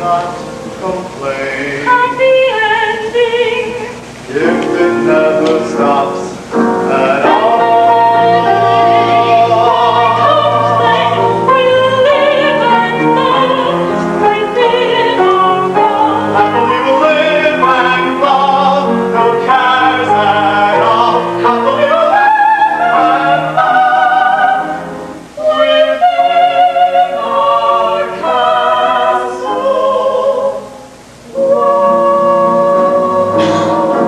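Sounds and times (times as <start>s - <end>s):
person singing with vibrato: 0.0s - 34.0s.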